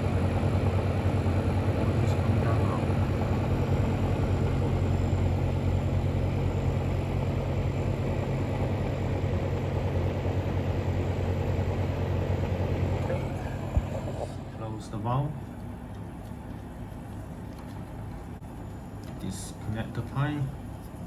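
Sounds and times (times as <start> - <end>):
dehumidifier humming: 0.0 - 21.0.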